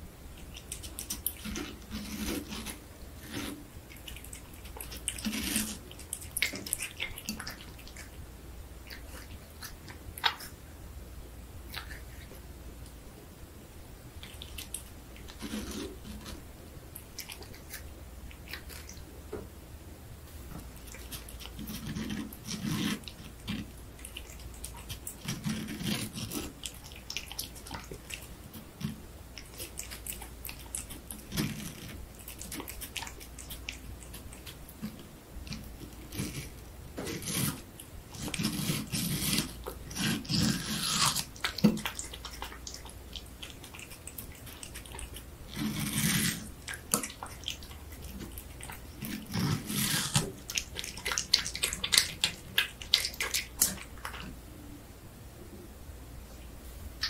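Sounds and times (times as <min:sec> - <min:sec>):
cat chewing watermelon: 0:00.0 - 0:10.7, 0:11.6 - 0:13.0, 0:14.1 - 0:19.2, 0:20.4 - 0:54.4.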